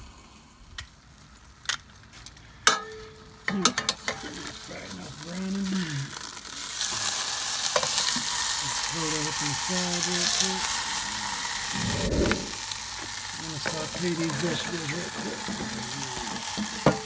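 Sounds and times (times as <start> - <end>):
meat sizzling in a pot: 3.0 - 17.0.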